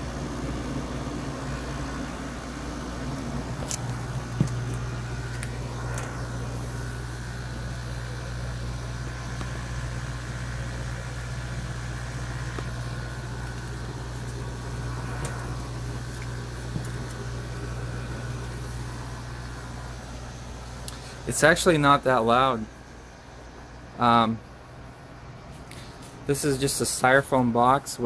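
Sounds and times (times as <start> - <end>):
air conditioners humming: 0.0 - 28.0.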